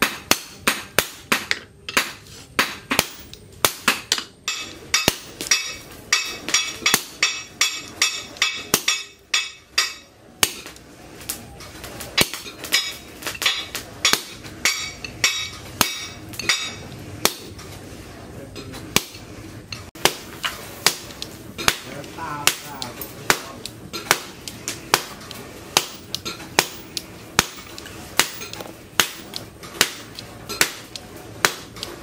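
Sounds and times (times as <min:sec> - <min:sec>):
hammer striking hot metal on anvil: 0:00.0 - 0:11.4, 0:12.2 - 0:17.6, 0:18.9 - 0:19.3, 0:20.0 - 0:31.9.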